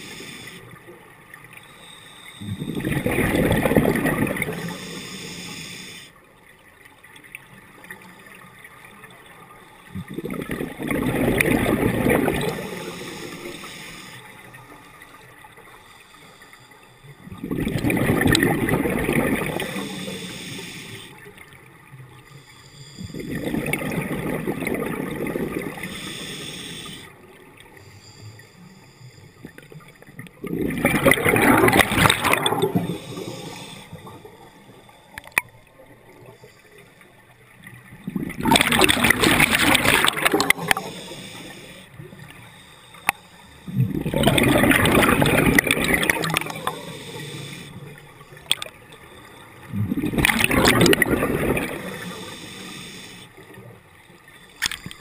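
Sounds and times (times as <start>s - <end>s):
underwater exhaled bubbles: 0.0s - 6.1s, 7.0s - 55.0s.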